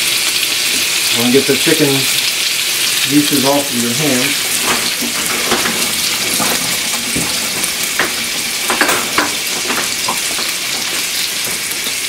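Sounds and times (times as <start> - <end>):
chicken frying in grease: 0.0 - 12.0.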